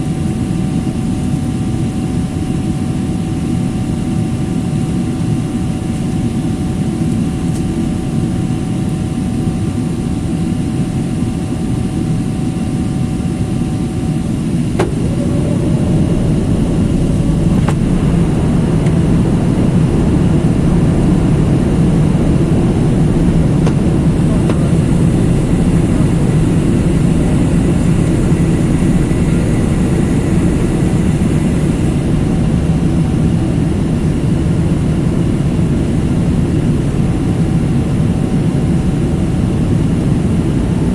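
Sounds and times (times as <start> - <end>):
jet engine rumble in cabin: 0.0 - 40.9.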